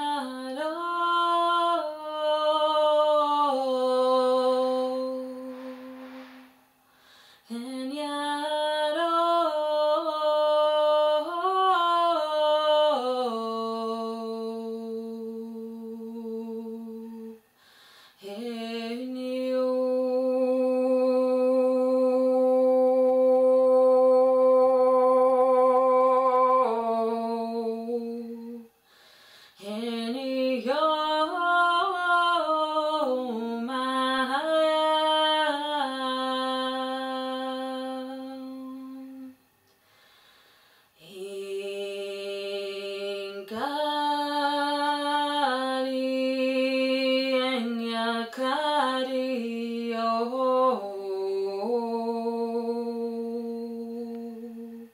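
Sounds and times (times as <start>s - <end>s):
woman chanting sustained tones: 0.0s - 39.4s, 40.2s - 54.9s.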